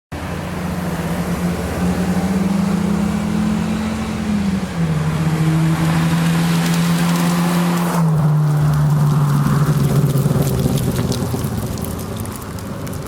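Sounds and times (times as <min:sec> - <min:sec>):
car engine droning under load: 0:00.1 - 0:13.0.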